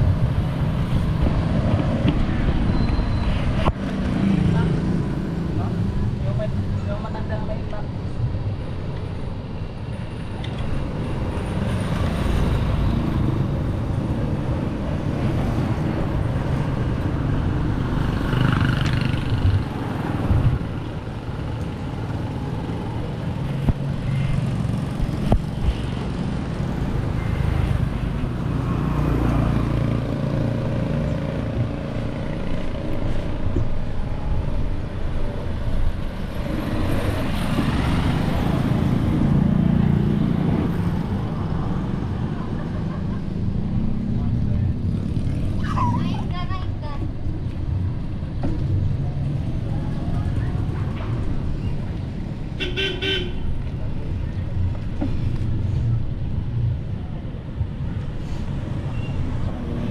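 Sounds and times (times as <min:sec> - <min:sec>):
low traffic rumble: 0:00.0 - 0:59.9
vehicles passing close: 0:00.0 - 0:59.9.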